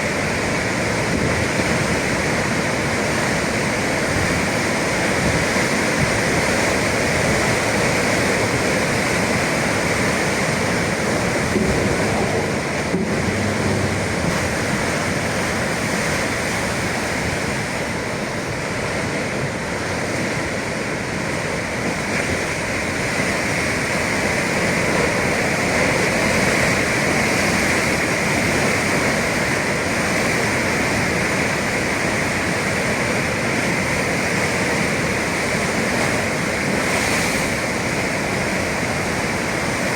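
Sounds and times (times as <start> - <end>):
surf breaking on shore: 0.0 - 39.9.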